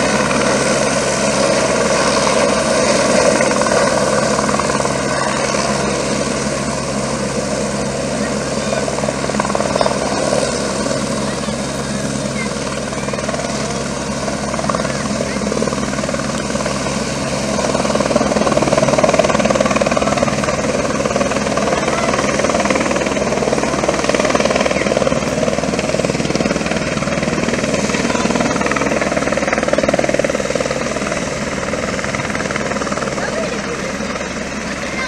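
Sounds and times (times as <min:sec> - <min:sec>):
helicopter rotor beating: 0:00.0 - 0:35.0.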